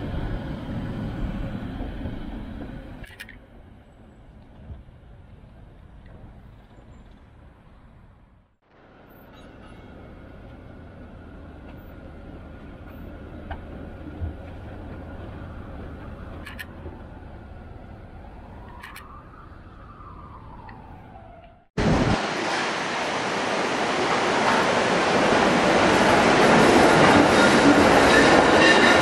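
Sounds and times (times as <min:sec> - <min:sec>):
tram rumbling: 0:00.0 - 0:29.0.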